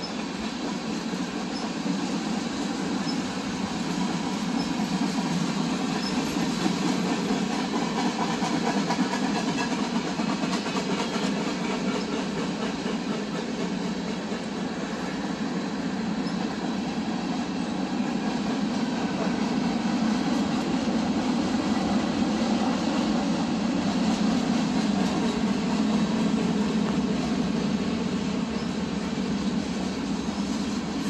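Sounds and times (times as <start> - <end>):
train wheels on rail: 0.0 - 31.0.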